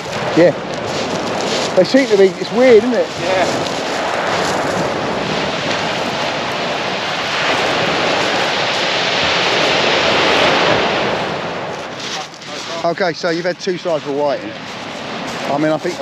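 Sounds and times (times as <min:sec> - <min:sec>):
surf breaking on shingle: 0:00.0 - 0:16.0.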